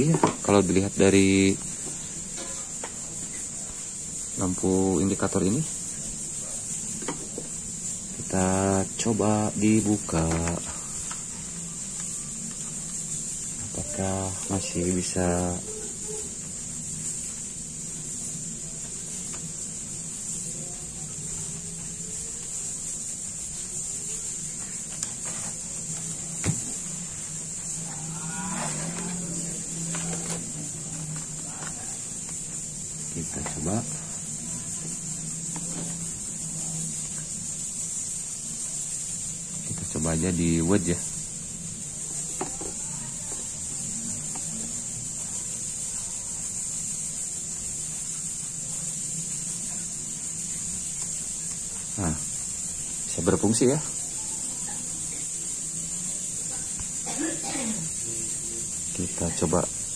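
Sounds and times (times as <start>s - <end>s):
steady high hiss: 0.0s - 59.9s.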